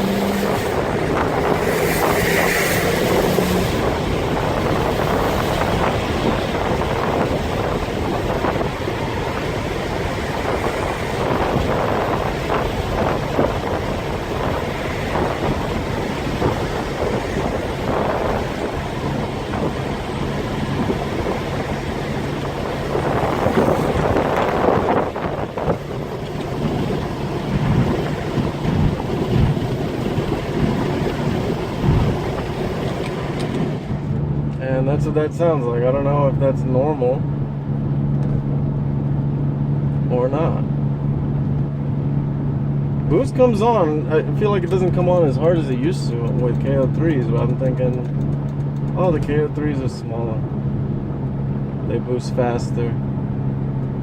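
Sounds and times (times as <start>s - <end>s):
turbo intake whoosh: 0.0s - 44.6s
car engine accelerating: 0.0s - 54.0s
wind rushing through windows: 0.0s - 54.0s.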